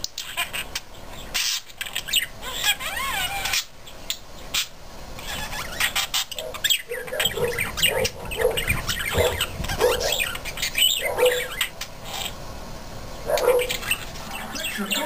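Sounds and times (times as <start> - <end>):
budgerigars chirping: 0.1 - 12.4, 13.1 - 15.0.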